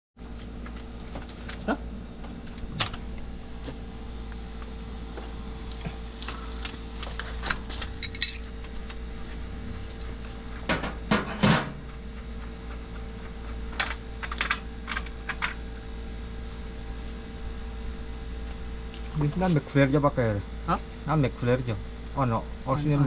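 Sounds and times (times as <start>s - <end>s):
faint steady hum: 0.2s - 23.0s.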